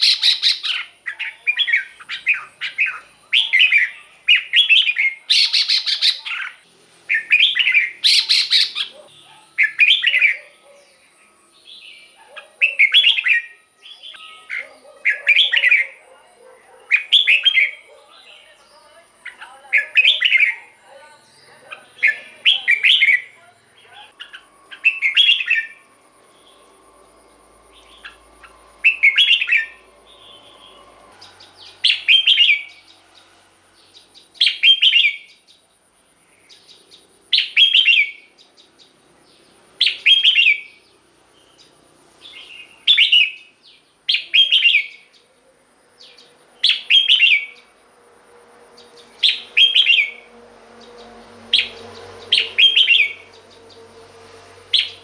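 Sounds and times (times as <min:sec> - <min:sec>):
bird singing warbled phrase: 0:00.0 - 0:35.5, 0:36.4 - 0:47.7, 0:48.8 - 0:55.0.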